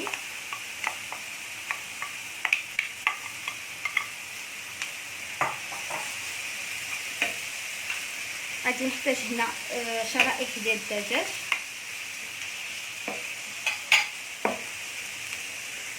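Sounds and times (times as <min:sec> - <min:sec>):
fish sizzling in hot oil: 0:00.0 - 0:15.9.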